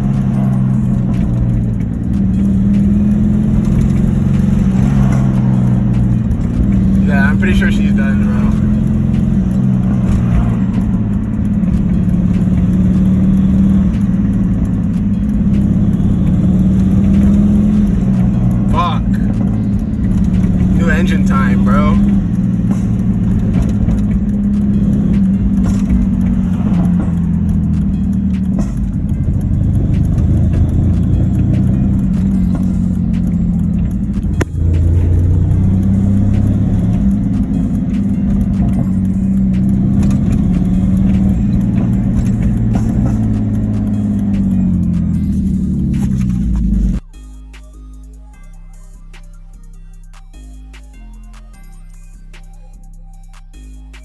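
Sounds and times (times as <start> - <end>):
car engine droning: 0.0 - 54.0.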